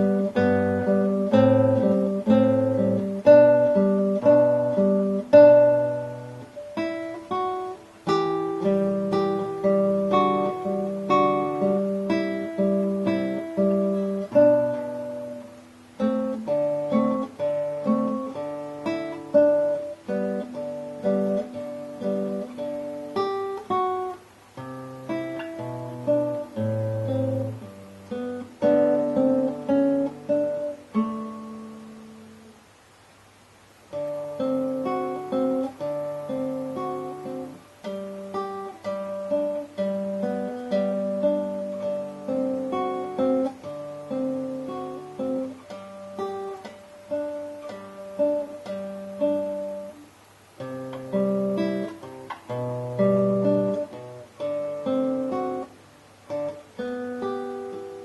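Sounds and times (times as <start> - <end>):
classical guitar fingerstyle: 0.0 - 58.0.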